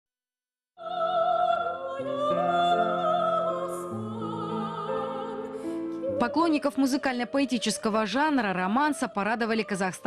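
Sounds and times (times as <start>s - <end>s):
classical singing with vibrato: 0.8s - 10.0s.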